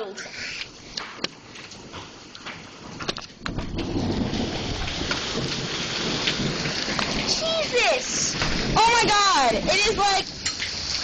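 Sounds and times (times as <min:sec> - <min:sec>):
hail clattering on house: 0:00.8 - 0:11.0.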